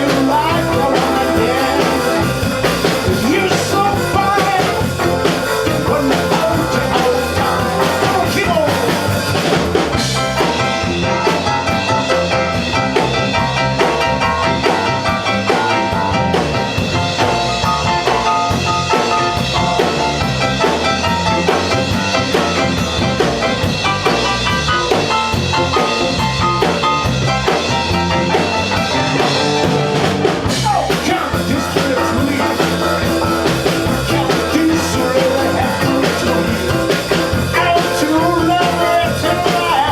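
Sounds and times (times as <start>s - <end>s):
band playing up-tempo song: 0.0s - 39.9s
drum kit beat: 0.0s - 39.9s.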